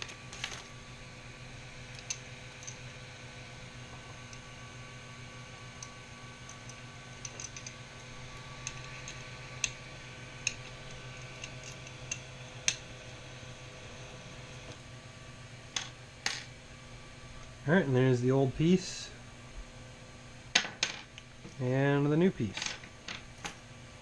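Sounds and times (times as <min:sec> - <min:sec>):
cooling fans humming: 0:00.0 - 0:24.0.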